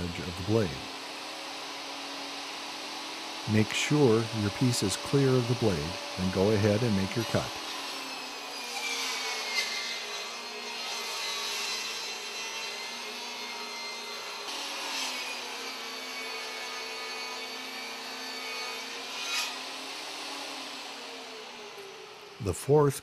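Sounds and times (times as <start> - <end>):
saw blade cutting wood: 0.0 - 22.5
table saw whining: 0.0 - 22.8.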